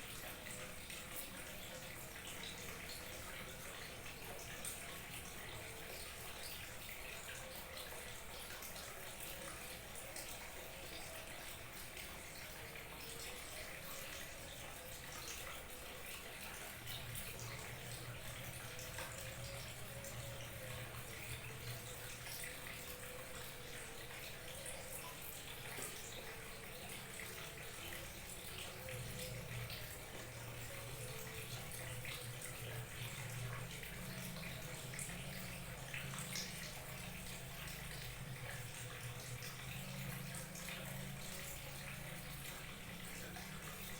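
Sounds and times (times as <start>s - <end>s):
small waterfall trickling and splashing: 0.0s - 43.9s.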